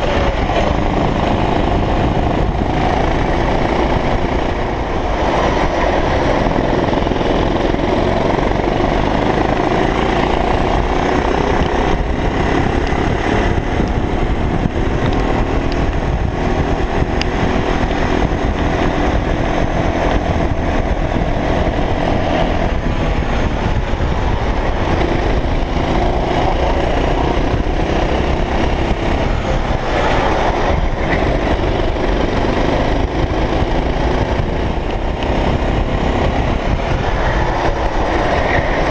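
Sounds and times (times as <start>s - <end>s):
racing kart engine: 0.0s - 38.9s
wind on microphone: 0.0s - 38.9s.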